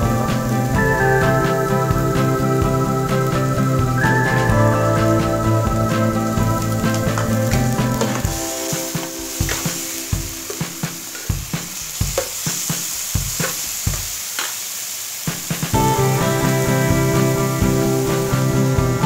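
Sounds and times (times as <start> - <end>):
background music: 0.0 - 12.1, 15.8 - 19.0
stir-fry sizzling in a pan: 0.0 - 19.0.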